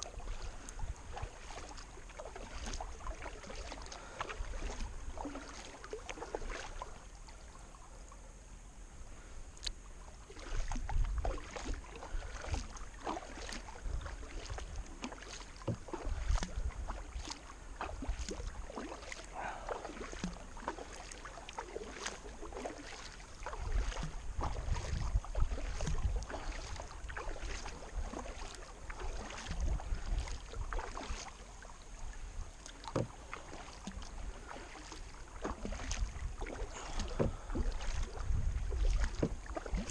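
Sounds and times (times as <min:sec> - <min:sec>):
paddle splashes and drips: 0:00.0 - 0:08.3, 0:09.0 - 0:39.9.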